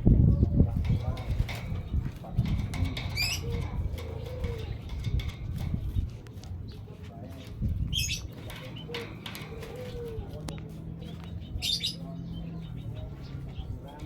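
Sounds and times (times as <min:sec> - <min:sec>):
birds tapping on perches: 0:00.4 - 0:14.0.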